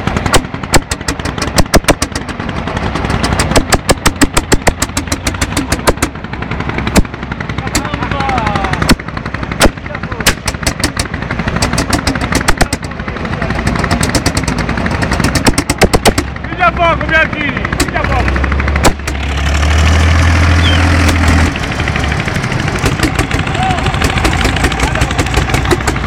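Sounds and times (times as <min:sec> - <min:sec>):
low engine hum: 0:00.0 - 0:26.0
tractor exhaust bangs: 0:00.0 - 0:26.0.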